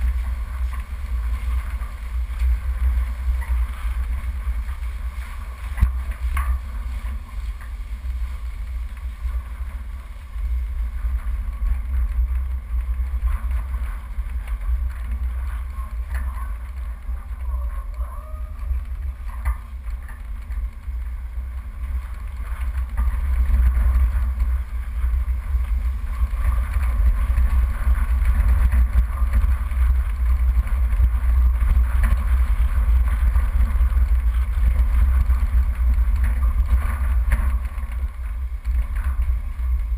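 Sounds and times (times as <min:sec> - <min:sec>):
off-road vehicle engine rumble: 0:00.0 - 0:39.9
wind on microphone: 0:00.0 - 0:39.9.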